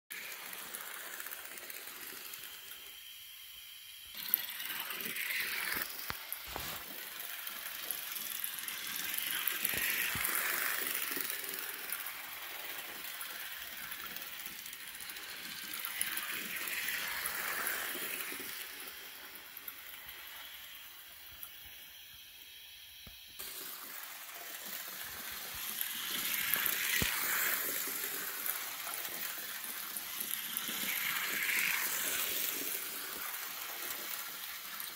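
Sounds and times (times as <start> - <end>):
rapid clicking of train wheels: 0.1 - 21.8, 23.1 - 34.9
model steam locomotive hissing: 0.1 - 34.9.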